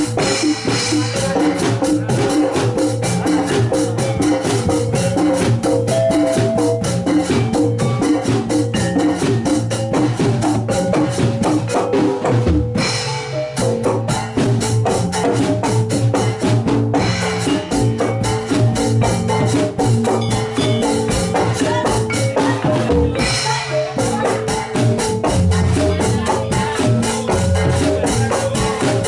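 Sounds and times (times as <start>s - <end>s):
metallophones ringing: 0.0s - 29.0s
steady drumming: 0.0s - 29.0s.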